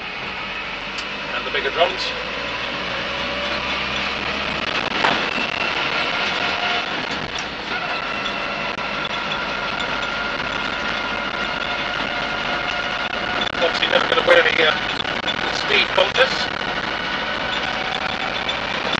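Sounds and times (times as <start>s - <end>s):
steady whine: 0.0s - 18.9s
truck engine and road noise: 0.0s - 18.9s.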